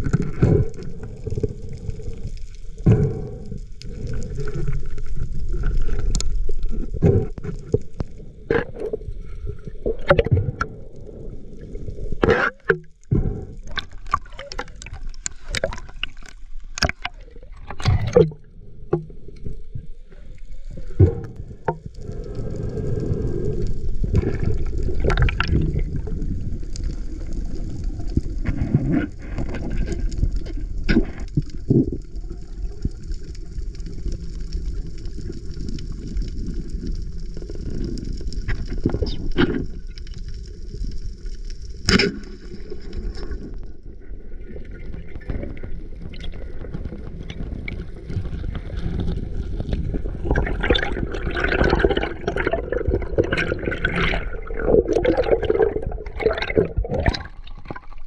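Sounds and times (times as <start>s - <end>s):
sea water sloshing and gurgling: 0.0s - 58.0s.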